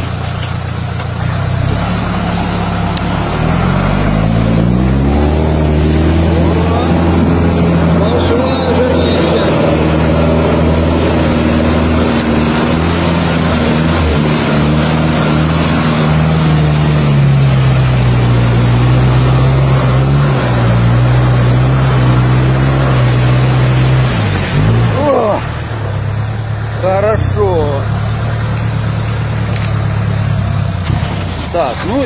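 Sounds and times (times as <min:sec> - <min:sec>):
truck engine labouring: 0:00.0 - 0:32.0
water rushing and splashing: 0:00.0 - 0:32.0.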